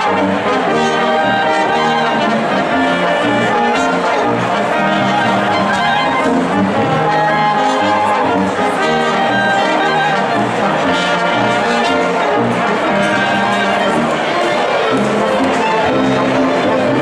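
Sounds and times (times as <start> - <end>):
brass instruments playing: 0.0 - 17.0.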